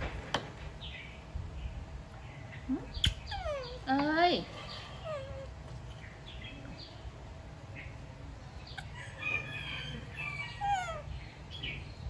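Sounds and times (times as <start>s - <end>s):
low background rumble: 0.0s - 12.0s
small birds chirping: 0.7s - 12.0s.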